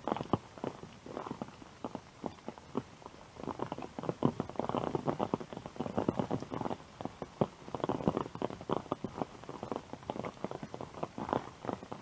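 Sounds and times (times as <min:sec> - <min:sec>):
rain pattering on umbrella: 0:00.0 - 0:12.0.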